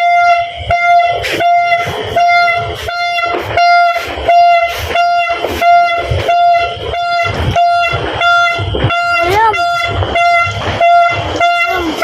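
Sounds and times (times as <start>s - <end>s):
firecrackers banging: 0.0s - 12.0s
horn steady note: 0.0s - 12.0s.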